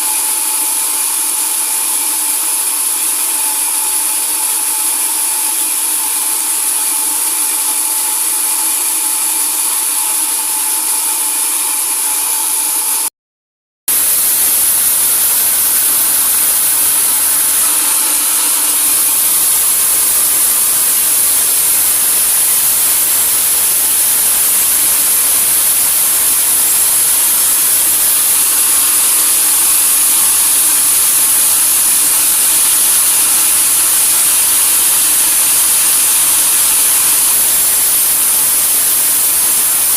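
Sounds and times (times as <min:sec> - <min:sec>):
sawmill saw running: 0:00.0 - 0:13.1, 0:13.9 - 0:39.9.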